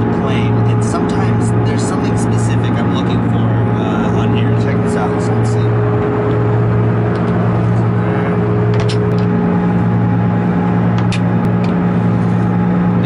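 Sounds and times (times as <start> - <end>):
jet aircraft cabin hum: 0.0 - 13.0.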